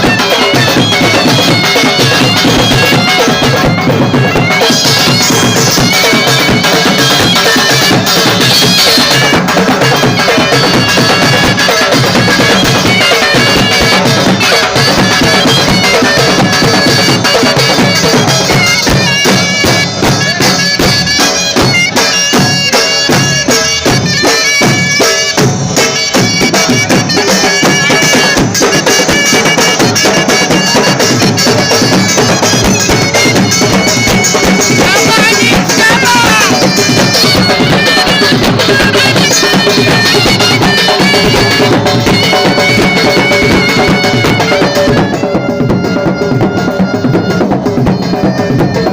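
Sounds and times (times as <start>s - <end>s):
drums: 0.0s - 48.9s
shawm playing fast melody: 0.0s - 48.9s.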